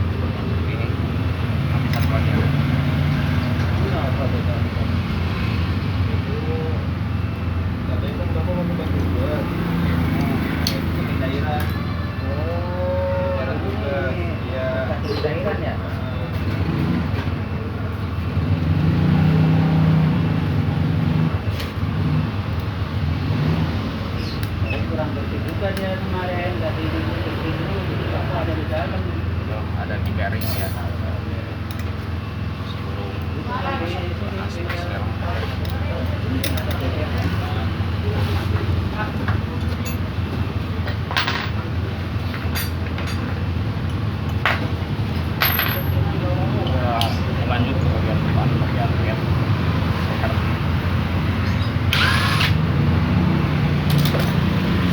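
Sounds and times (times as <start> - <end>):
vehicle engine humming: 0.0 - 54.9.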